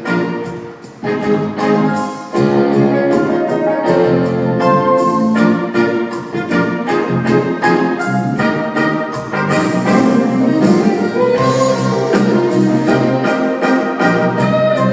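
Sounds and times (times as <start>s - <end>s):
instrumental orchestral show music: 0.0s - 14.9s.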